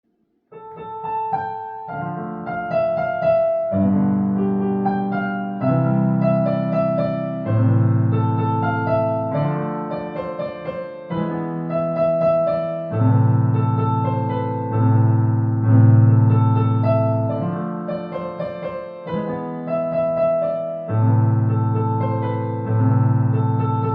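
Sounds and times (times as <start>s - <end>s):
solo piano melody: 0.4s - 23.9s.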